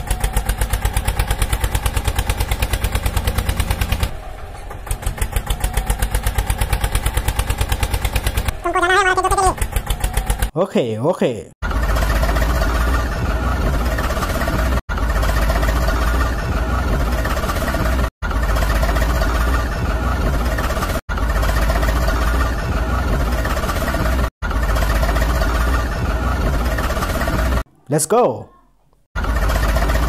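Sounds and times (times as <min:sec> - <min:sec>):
engine rumbling: 0:00.0 - 0:10.6, 0:11.6 - 0:27.7, 0:29.2 - 0:30.0.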